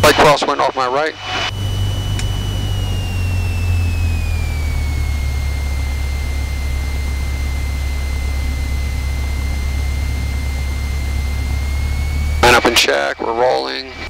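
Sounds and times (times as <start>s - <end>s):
aircraft engine and propeller drone: 0.0s - 14.0s
thin high whine: 0.0s - 14.0s.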